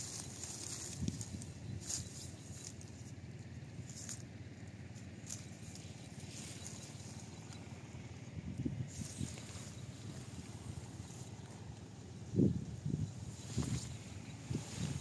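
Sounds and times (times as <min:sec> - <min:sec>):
leaves and twigs rustling: 0:00.0 - 0:15.0
low steady rumble: 0:00.0 - 0:15.0.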